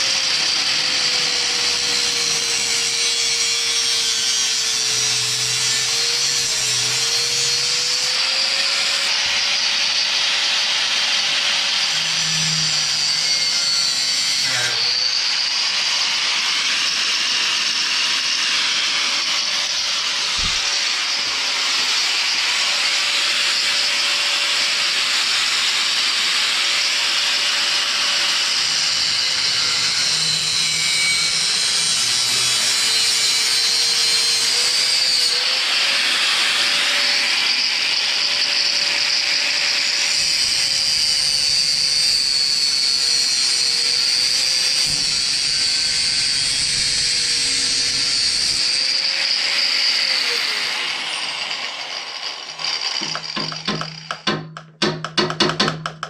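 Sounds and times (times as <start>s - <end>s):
angle grinder cutting steel: 0.0s - 54.8s.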